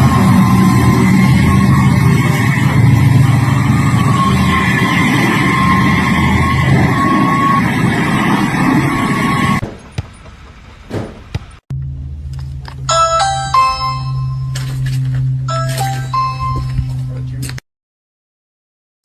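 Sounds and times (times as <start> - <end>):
heavy engine running: 0.0 - 15.6.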